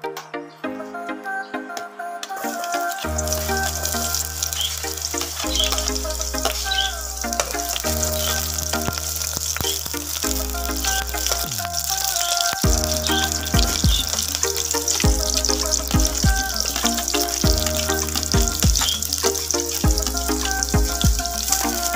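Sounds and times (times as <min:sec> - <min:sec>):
background music with bass: 0:02.4 - 0:21.9.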